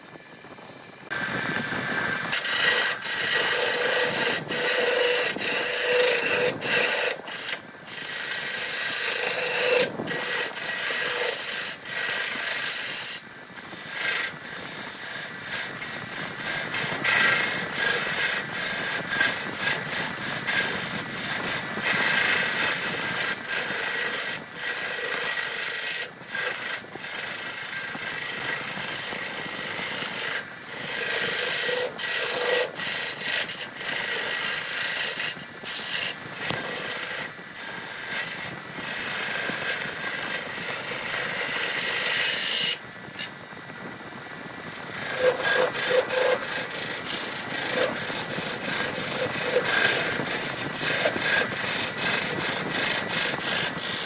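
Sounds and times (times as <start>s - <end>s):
abrasive tool rasping wood: 1.1s - 43.4s, 44.6s - 54.0s.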